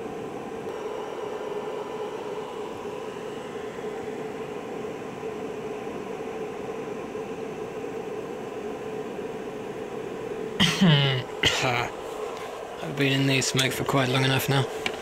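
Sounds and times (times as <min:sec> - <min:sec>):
cooling fan whirring: 0:00.0 - 0:15.0
wavering hum: 0:00.0 - 0:15.0.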